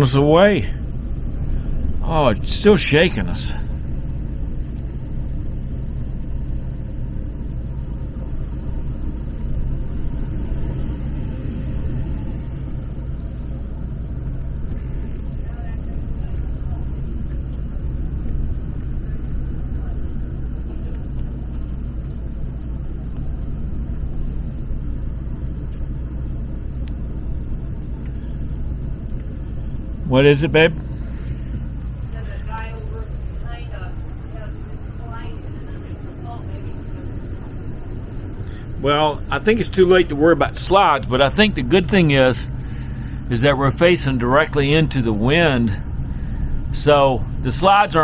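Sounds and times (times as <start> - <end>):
storm wind buffeting a vehicle: 0.0 - 48.0.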